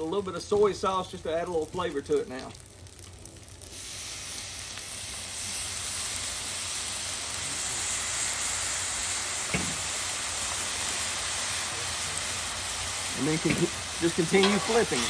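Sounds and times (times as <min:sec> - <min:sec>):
rice sizzling on a griddle: 0:00.0 - 0:15.0.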